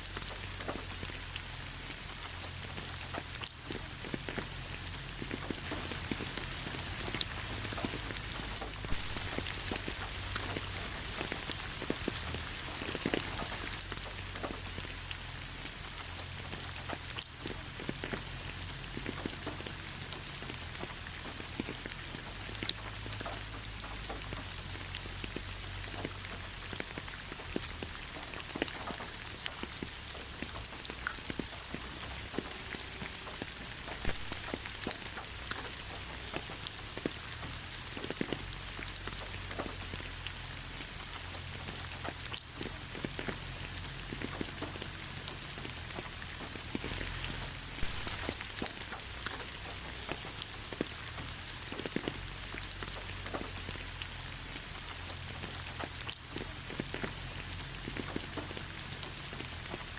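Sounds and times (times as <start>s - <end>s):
rain pattering on a surface: 0.0s - 59.9s.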